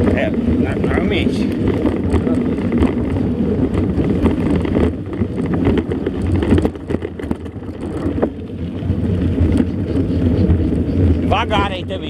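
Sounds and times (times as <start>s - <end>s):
bike rattles and knocks: 0.0s - 12.0s
wind buffeting microphone: 0.0s - 12.0s.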